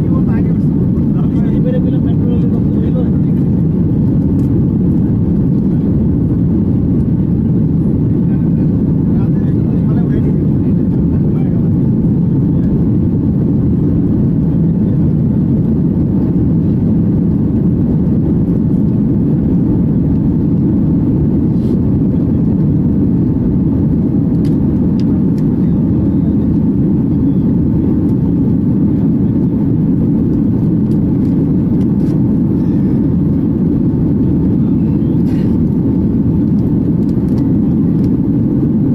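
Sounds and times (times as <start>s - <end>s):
airplane cabin roar: 0.0s - 38.9s.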